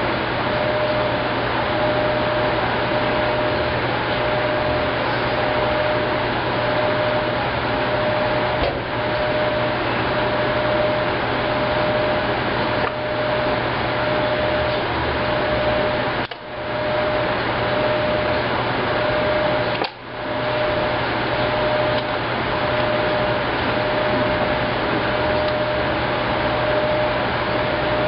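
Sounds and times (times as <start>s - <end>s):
low hum: 0.0s - 28.0s
washing machine whirring: 0.0s - 28.0s.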